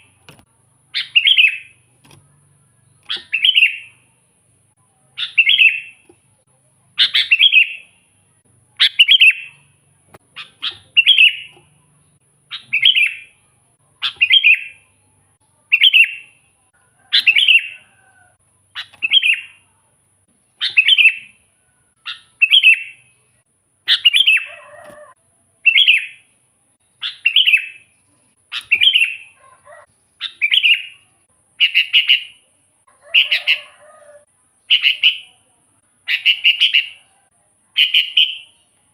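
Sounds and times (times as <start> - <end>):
bulbul singing: 0.0 - 4.2, 4.9 - 19.8, 20.5 - 32.5, 34.6 - 38.9.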